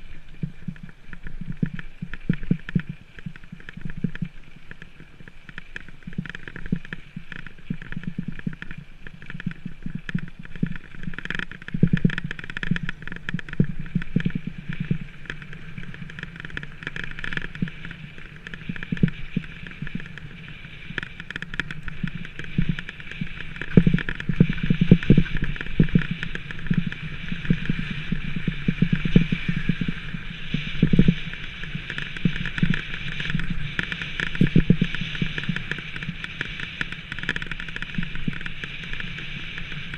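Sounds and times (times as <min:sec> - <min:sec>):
bike rattling and knocking: 0:00.0 - 0:39.9
bike rolling on gravel: 0:00.0 - 0:39.9.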